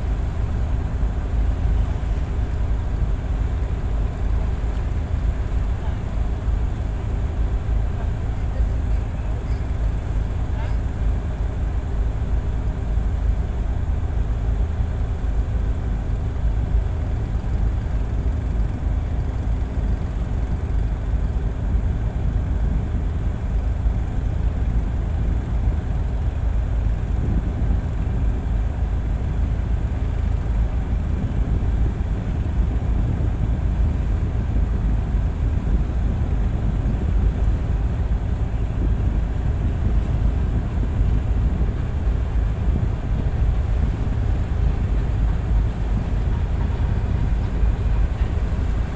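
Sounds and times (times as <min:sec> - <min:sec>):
diesel engines droning: 0:00.0 - 0:48.9.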